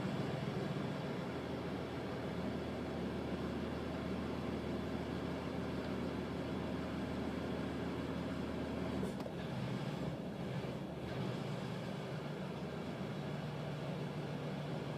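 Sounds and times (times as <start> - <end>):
engine running with a misfire: 0.0 - 14.9.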